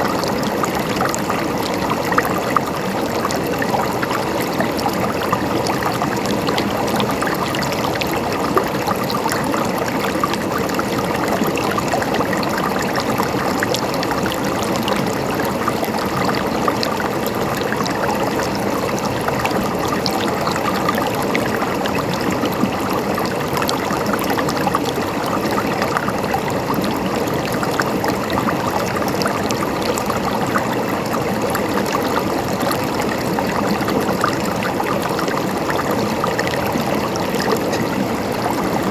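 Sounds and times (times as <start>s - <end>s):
stream gurgling over stones: 0.0s - 38.9s.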